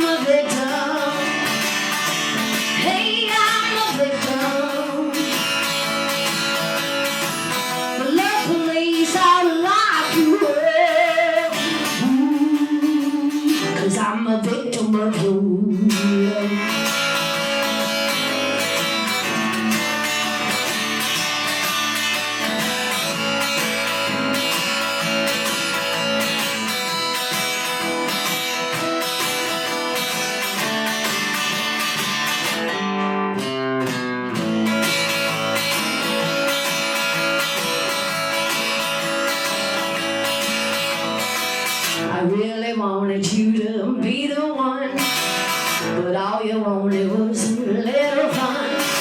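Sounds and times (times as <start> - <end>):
guitar strumming chords: 0.0 - 49.0.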